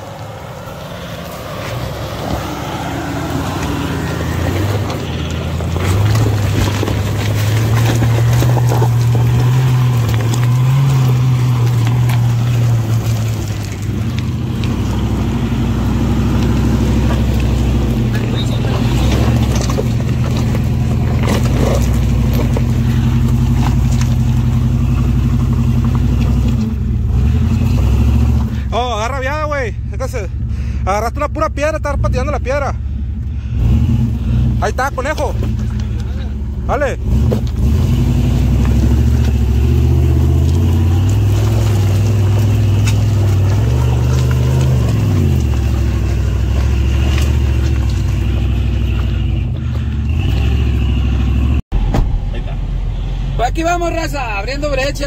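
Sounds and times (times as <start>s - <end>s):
car engine under load: 0.0s - 55.0s
stones clicking under tyres: 1.2s - 28.7s, 34.6s - 51.5s.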